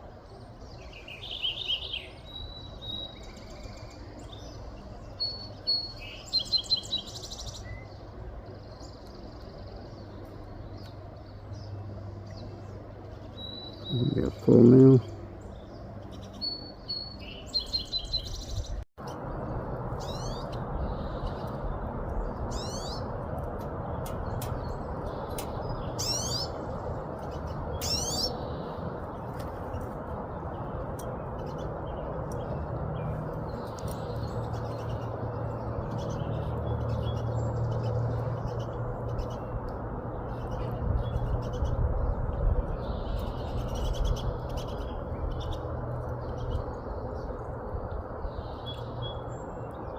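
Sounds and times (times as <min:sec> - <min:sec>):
low background hum: 0:00.0 - 0:49.9
small songbirds calling: 0:00.0 - 0:49.9.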